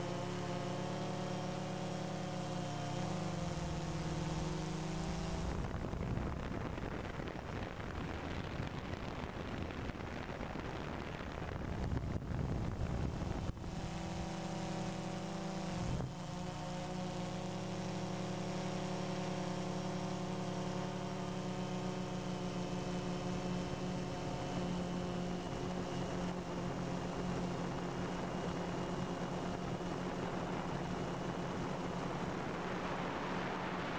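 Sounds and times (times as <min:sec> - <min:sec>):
drone propellers humming: 0:00.0 - 0:09.0, 0:11.5 - 0:33.9
rushing wind-like noise: 0:02.5 - 0:17.6, 0:20.8 - 0:33.9.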